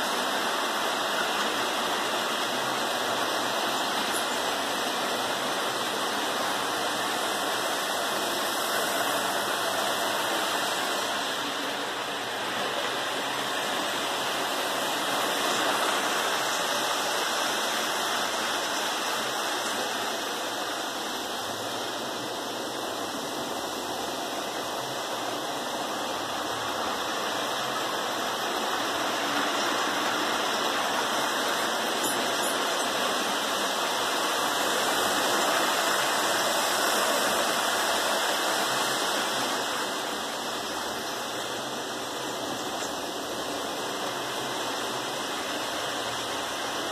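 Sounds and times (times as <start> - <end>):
model trains rumbling on track: 0.0 - 46.9.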